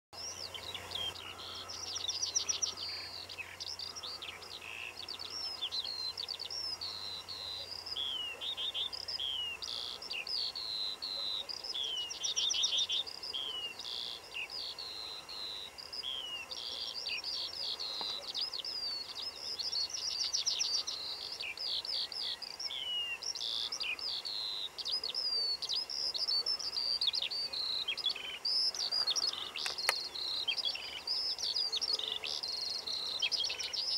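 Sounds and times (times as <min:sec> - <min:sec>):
skylark singing: 0:00.2 - 0:33.9.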